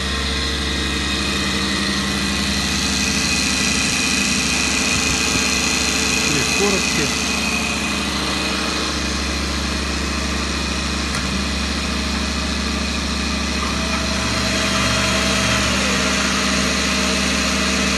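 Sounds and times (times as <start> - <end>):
panel saw running hum: 0.0 - 17.9.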